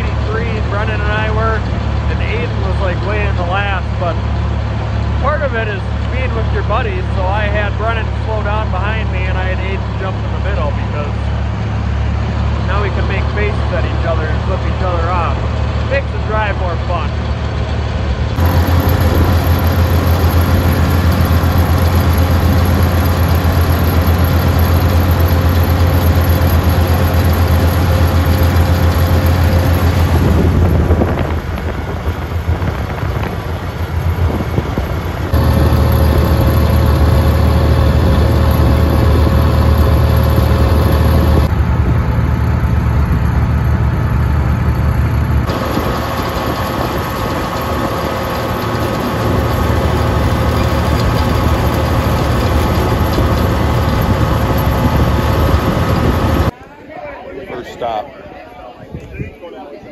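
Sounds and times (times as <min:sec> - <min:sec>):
tractor engine low hum: 0:00.0 - 0:56.6.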